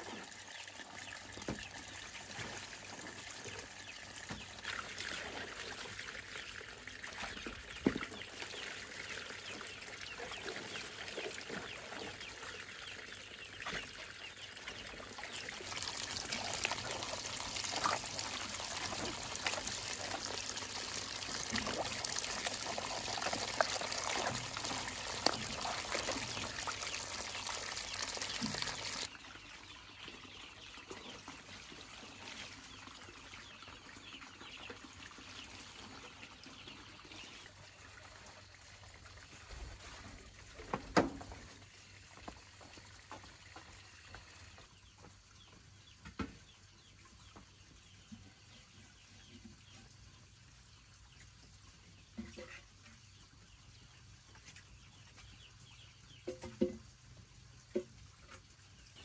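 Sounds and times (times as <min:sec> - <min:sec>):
water pouring and trickling: 0:00.0 - 0:44.8, 0:48.9 - 0:59.0.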